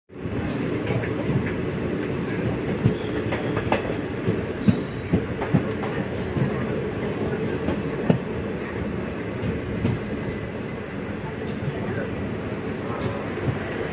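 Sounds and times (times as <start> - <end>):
train rumbling on rails: 0.1 - 13.9.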